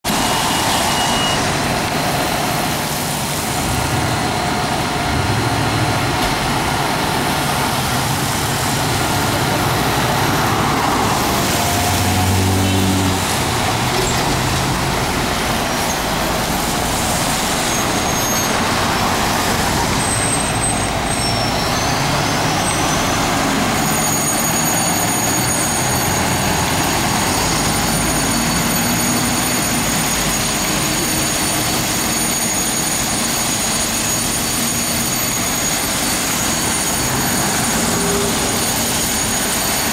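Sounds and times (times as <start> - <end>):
city street traffic: 0.0 - 39.9
fire engine diesel engine: 0.0 - 39.9.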